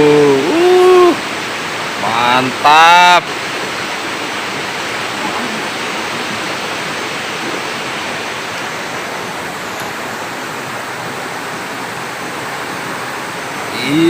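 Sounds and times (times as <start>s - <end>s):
river rapids rushing: 0.0s - 14.0s.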